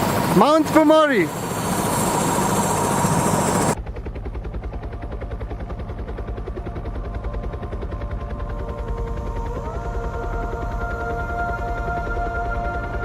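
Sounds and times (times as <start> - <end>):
helicopter rotor chopping: 0.0 - 13.0.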